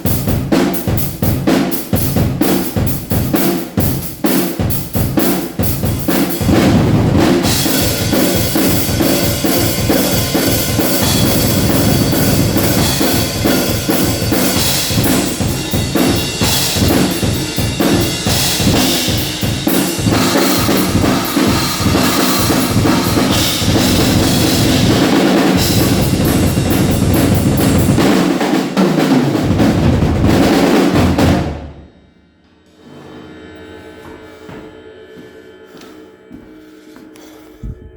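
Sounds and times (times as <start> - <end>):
drum kit played rapidly: 0.0 - 31.8.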